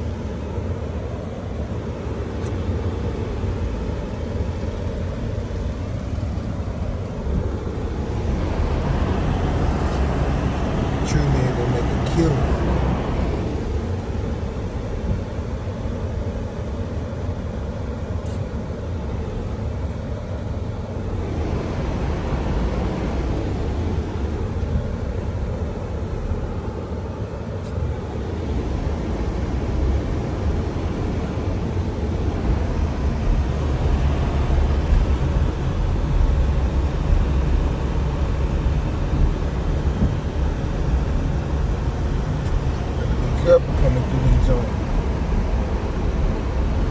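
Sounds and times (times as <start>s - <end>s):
car driving road noise: 0.0s - 46.9s.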